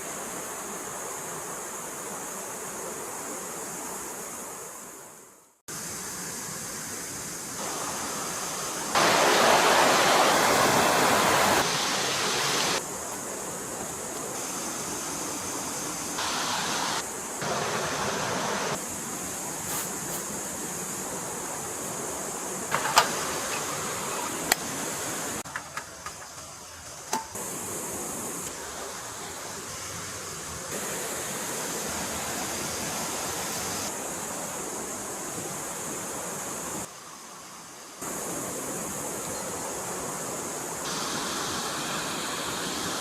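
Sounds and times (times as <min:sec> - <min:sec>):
stream water rushing: 0:00.0 - 0:25.5, 0:27.3 - 0:43.0.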